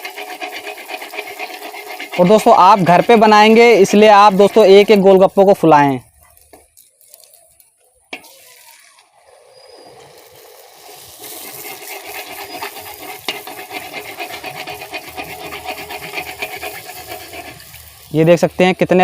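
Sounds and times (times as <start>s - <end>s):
dough deep-frying in hot oil: 0.0s - 19.0s.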